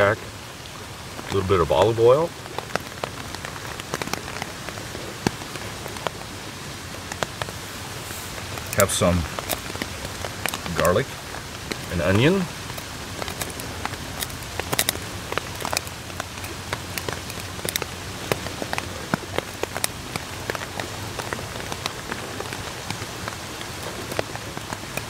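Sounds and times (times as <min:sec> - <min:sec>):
rain on a tarp: 0:00.0 - 0:25.0.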